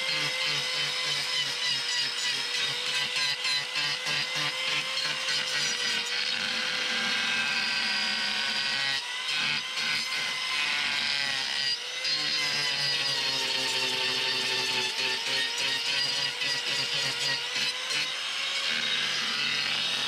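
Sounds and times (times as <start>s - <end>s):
angle grinder grinding hoof: 0.0s - 20.0s.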